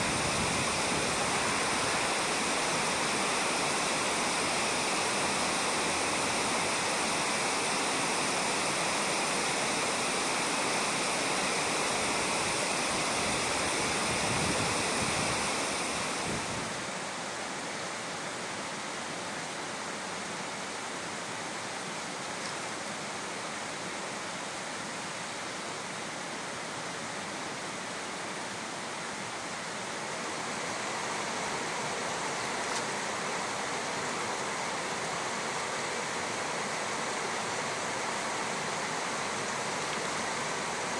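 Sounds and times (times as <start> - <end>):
river water running over gravel: 0.0 - 17.6, 20.0 - 40.9.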